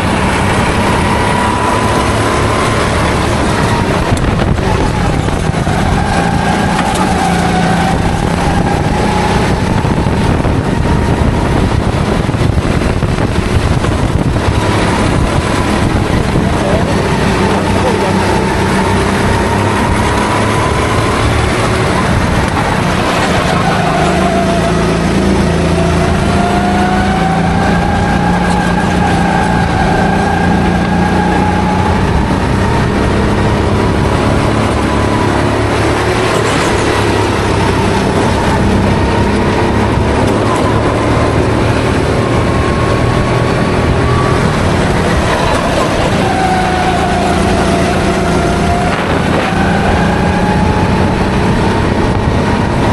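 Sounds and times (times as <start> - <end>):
kart engine: 0.0 - 52.9
wind noise: 0.0 - 52.9.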